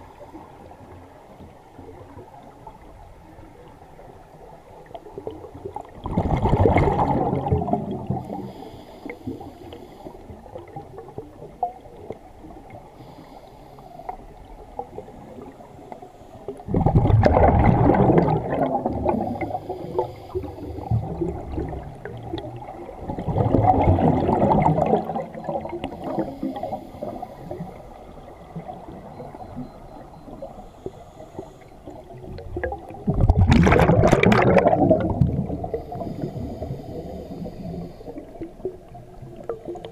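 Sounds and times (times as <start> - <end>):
underwater exhaled air bubbling: 3.9 - 13.4, 14.0 - 39.9.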